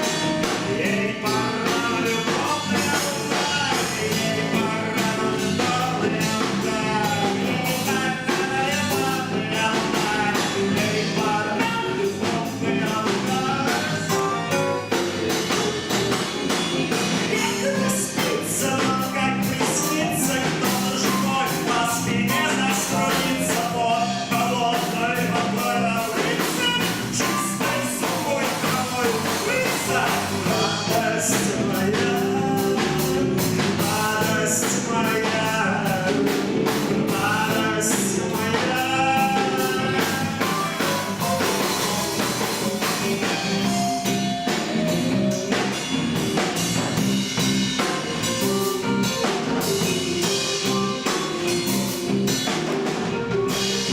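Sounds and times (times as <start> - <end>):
drum kit: 0.0 - 53.9
electric guitar: 0.0 - 53.9
person singing lead vocal: 0.0 - 53.9.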